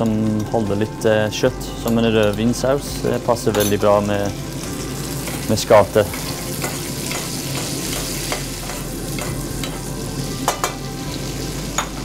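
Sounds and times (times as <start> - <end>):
food sizzling in butter: 0.0 - 12.0.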